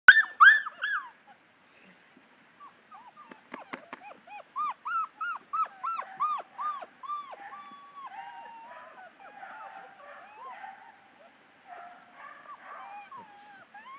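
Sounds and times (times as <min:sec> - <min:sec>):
puppies whimpering and yipping: 0:00.1 - 0:01.4, 0:02.6 - 0:11.3, 0:12.0 - 0:13.9.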